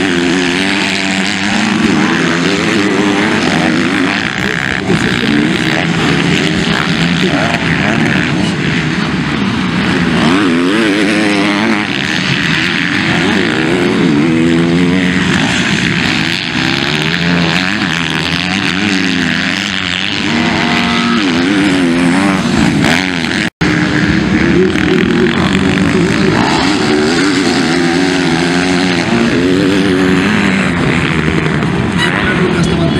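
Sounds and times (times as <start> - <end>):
motocross bike engines revving: 0.0 - 32.9.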